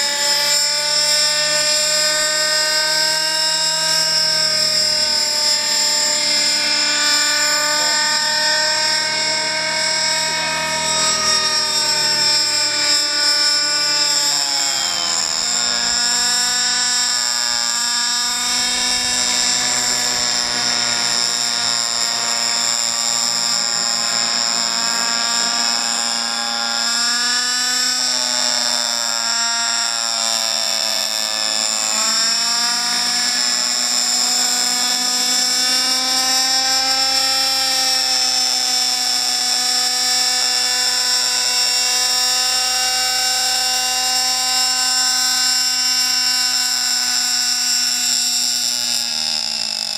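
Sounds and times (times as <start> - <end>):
model helicopter engine whining: 0.0 - 49.9.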